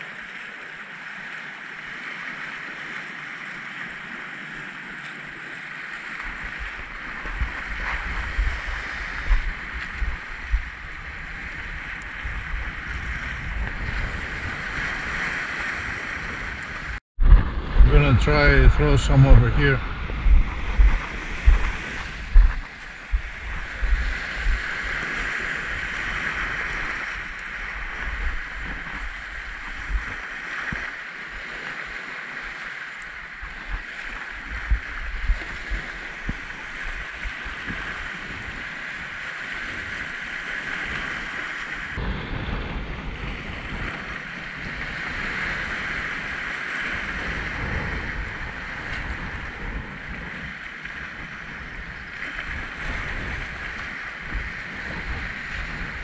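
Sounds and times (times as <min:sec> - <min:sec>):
waves breaking on rocky shore: 0:00.0 - 0:56.0
wind buffeting microphone: 0:03.9 - 0:56.0.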